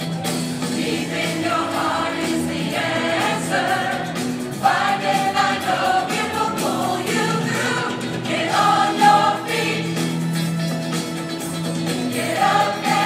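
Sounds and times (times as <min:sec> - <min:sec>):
group singing sustained notes: 0:00.6 - 0:10.5, 0:11.9 - 0:13.0.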